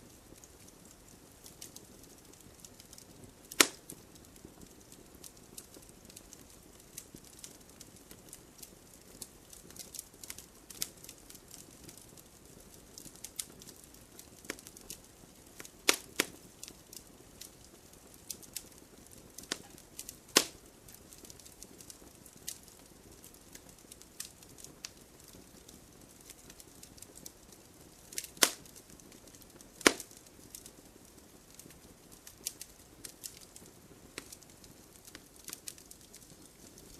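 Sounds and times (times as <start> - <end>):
fire crackling and popping: 0.0 - 36.9.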